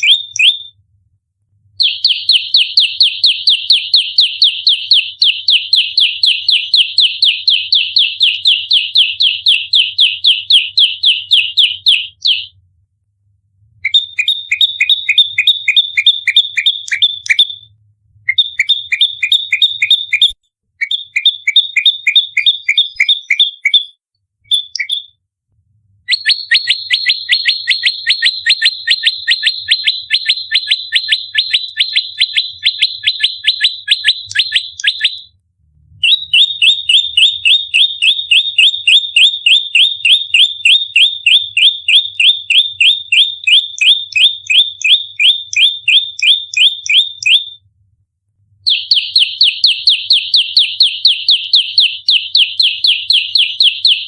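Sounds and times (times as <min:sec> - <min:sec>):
songbird rapid sharp chirps: 0:00.0 - 0:00.7, 0:01.8 - 0:12.5, 0:13.8 - 0:17.7, 0:18.3 - 0:25.2, 0:26.1 - 0:35.3, 0:36.0 - 0:47.5, 0:48.7 - 0:54.0.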